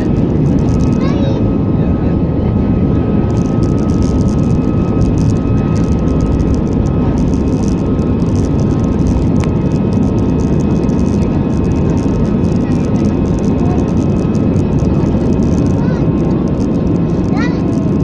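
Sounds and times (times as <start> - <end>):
jet engines roaring with whine: 0.0 - 18.0.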